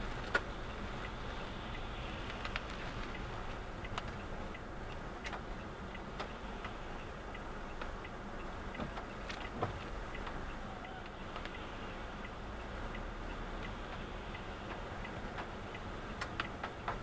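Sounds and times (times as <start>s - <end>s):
car hum: 0.0s - 17.0s
rain: 0.0s - 17.0s
turn signal ticking: 0.0s - 17.0s.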